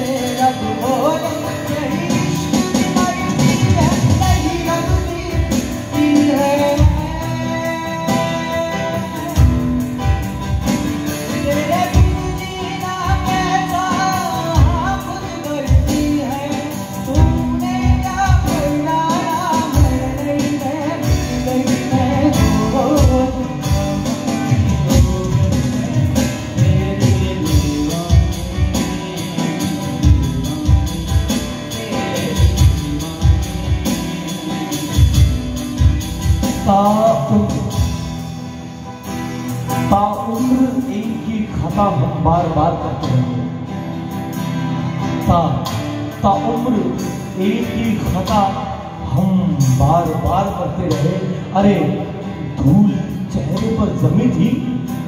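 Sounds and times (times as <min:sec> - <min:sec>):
man singing: 0:00.0 - 0:43.9, 0:44.8 - 0:55.0
keyboard: 0:00.0 - 0:55.0
regular beat: 0:00.0 - 0:55.0
strummed acoustic guitars: 0:00.0 - 0:55.0.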